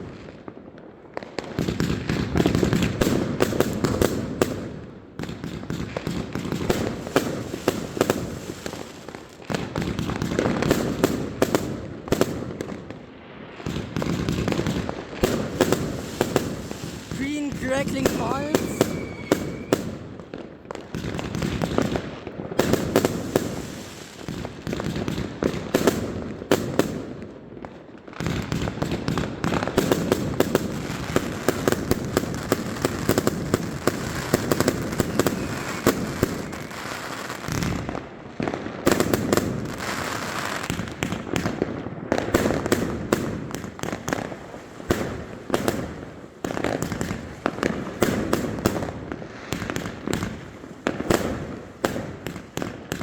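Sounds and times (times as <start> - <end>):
fireworks and firecrackers bangs: 0.0 - 53.0.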